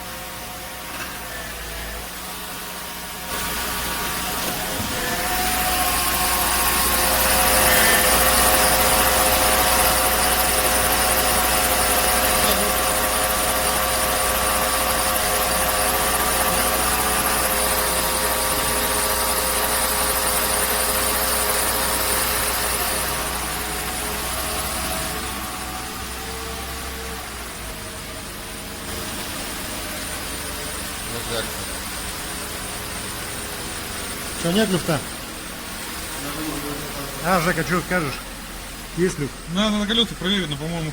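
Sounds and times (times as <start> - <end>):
car engine running: 0.0 - 40.9
power steering whine: 0.0 - 40.9.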